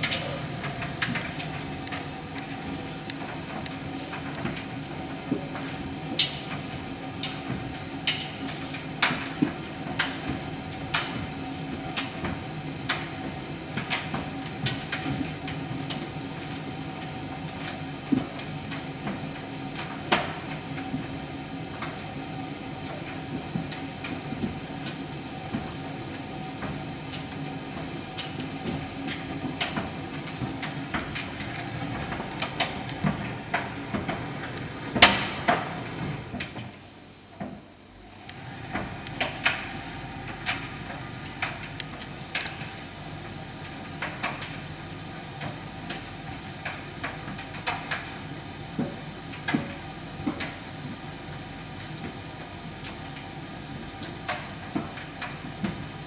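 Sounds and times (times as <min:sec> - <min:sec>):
tumble dryer motor hum: 0:00.0 - 0:56.0.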